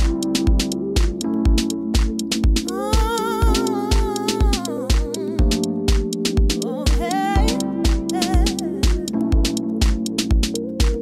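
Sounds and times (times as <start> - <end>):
electronic dance music: 0.0 - 11.0
kick drum: 0.0 - 11.0
ticking hi-hats: 0.0 - 11.0.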